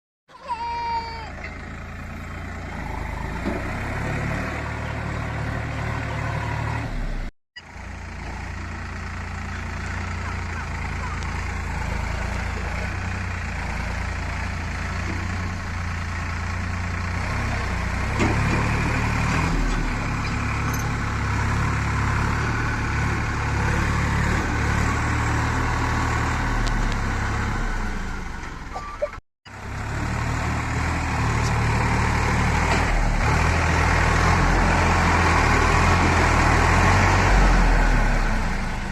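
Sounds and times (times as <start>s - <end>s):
tractor diesel engine running: 0.3s - 38.9s.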